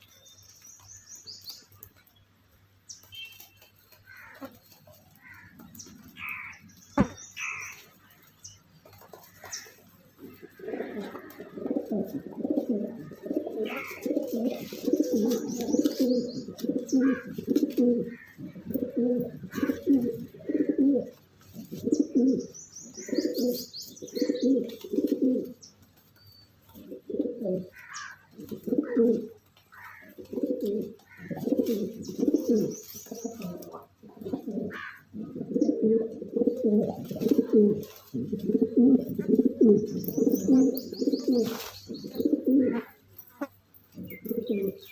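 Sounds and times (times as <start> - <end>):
pigeons cooing: 4.1 - 7.8, 9.0 - 25.7, 26.7 - 44.9.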